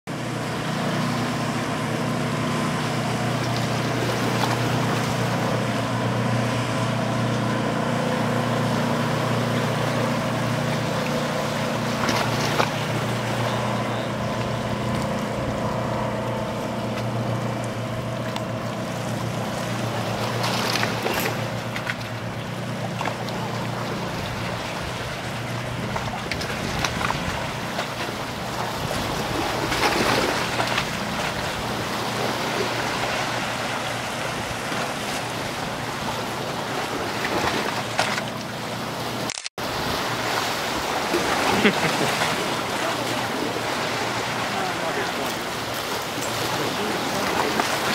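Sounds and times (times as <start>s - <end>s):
boat engines droning: 0.1s - 47.9s
bow wake rushing: 0.1s - 47.9s
waves: 0.1s - 47.9s.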